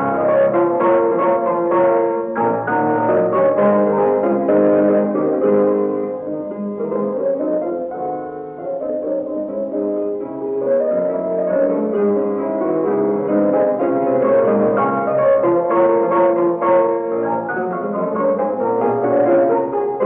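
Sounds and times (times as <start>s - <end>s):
solo classical piano: 0.0s - 20.0s.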